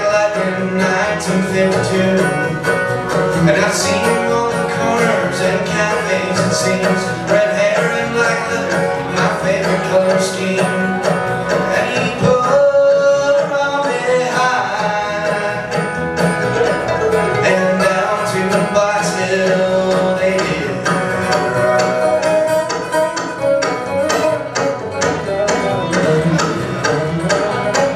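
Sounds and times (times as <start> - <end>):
man singing: 0.0 - 22.7
acoustic string band playing: 0.0 - 27.9.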